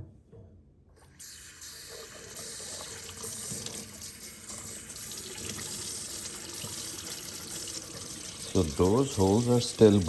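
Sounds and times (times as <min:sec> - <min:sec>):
tap water running: 0:01.0 - 0:10.0.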